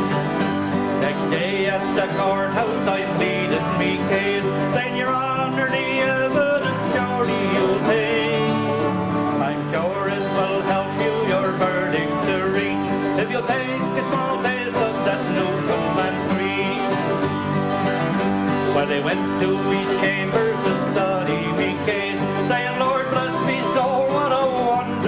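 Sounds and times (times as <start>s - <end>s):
acoustic guitars strumming: 0.0s - 25.0s.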